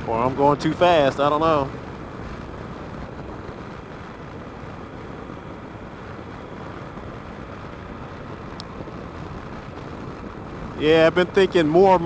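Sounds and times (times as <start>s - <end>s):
motorcycle engine and road noise: 0.0s - 12.0s
wind rush: 0.0s - 12.0s.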